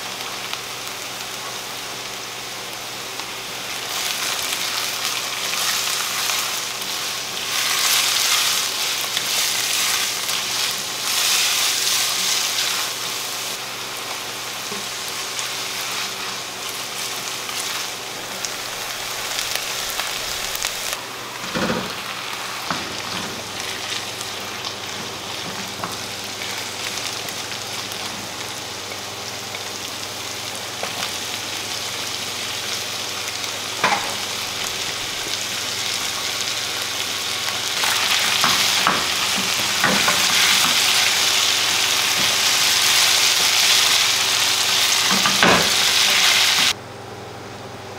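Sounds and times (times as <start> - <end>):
food sizzling in a frying pan: 0.0 - 46.8.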